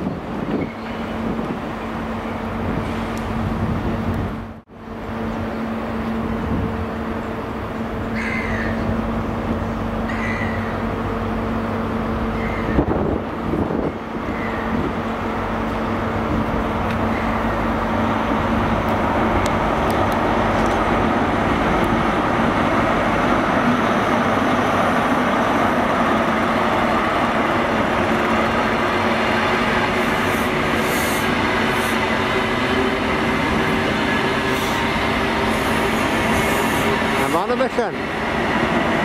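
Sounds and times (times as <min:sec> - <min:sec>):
diesel train engine passing: 0:00.0 - 0:39.0
train coaches rumbling over rails: 0:00.0 - 0:39.0.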